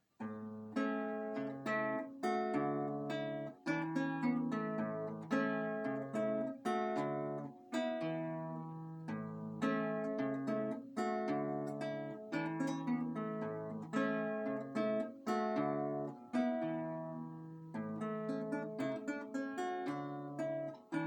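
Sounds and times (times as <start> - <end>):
fingerpicked acoustic guitar: 0.0 - 21.0.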